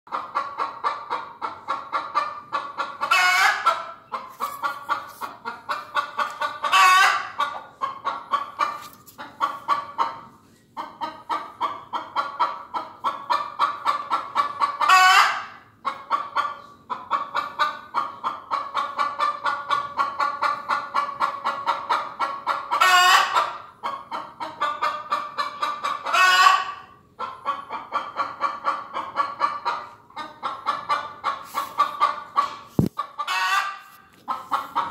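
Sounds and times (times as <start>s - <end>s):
chicken clucking: 0.1s - 34.9s
chicken drawn-out calls: 0.1s - 34.9s.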